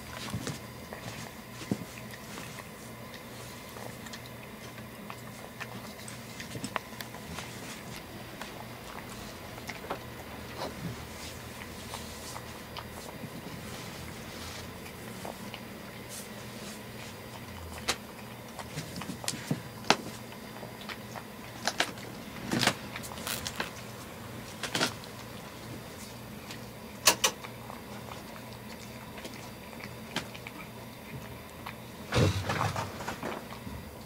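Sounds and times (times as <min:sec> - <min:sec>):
cat chewing and licking: 0:00.0 - 0:34.0
faint low hum: 0:00.0 - 0:34.0.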